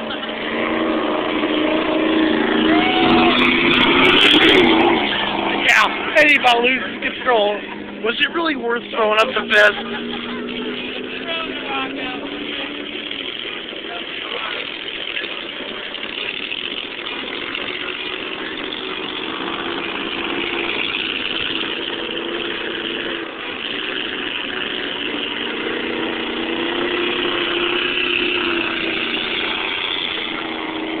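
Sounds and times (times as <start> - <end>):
boat engines droning: 0.0 - 31.0.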